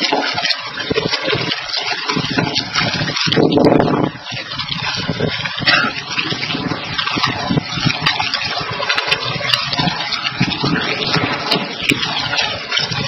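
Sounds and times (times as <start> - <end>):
boat engine droning: 0.0 - 13.0
constant rushing noise: 0.0 - 13.0.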